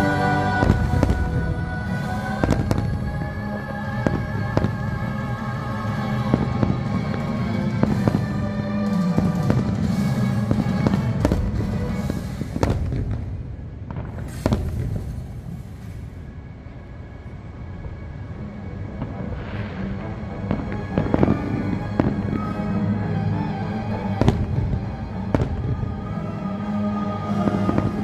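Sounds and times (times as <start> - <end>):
soundtrack music with held notes: 0.0 - 13.3, 16.2 - 28.0
fireworks bangs: 0.0 - 16.4, 18.9 - 26.6, 27.3 - 28.0.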